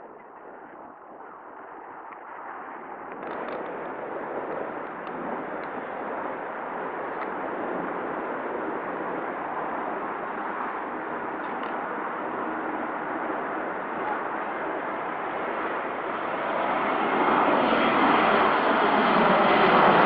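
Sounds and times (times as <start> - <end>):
aircraft engine rushing: 0.0 - 20.0.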